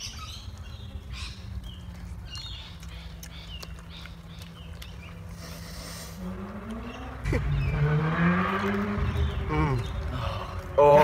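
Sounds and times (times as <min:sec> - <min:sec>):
chewing meat: 0:00.0 - 0:11.0.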